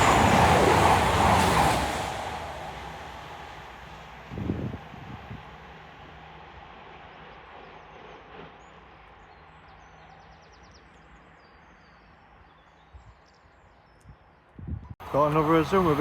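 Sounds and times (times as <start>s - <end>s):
train rumbling past: 0.0s - 12.4s, 15.0s - 16.0s.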